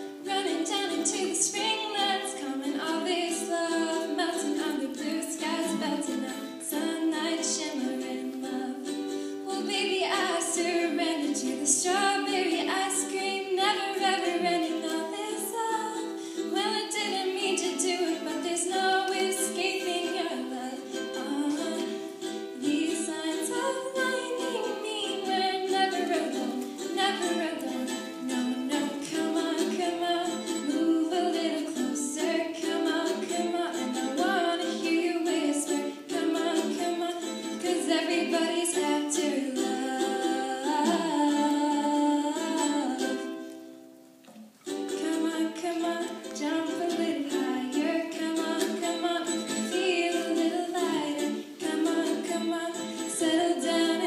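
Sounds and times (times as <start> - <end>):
woman singing: 0.0 - 43.6, 44.8 - 54.0
strummed ukulele: 0.0 - 54.0.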